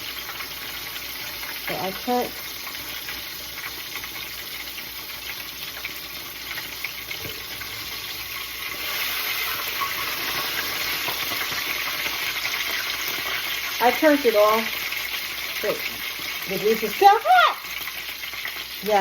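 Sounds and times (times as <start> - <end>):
fish sizzling in grease: 0.0 - 19.0.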